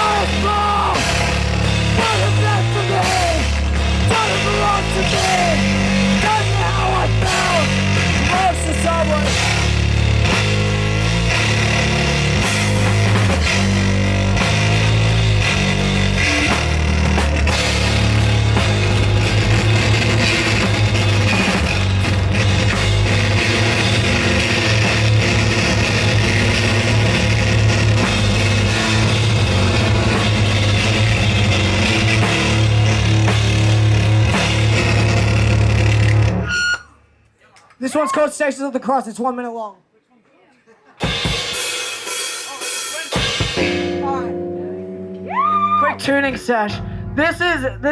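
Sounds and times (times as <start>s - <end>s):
drum kit: 0.0s - 36.8s, 41.0s - 44.4s
electric guitar: 0.0s - 36.8s, 43.1s - 47.9s
bass guitar: 0.0s - 37.0s, 41.0s - 47.9s.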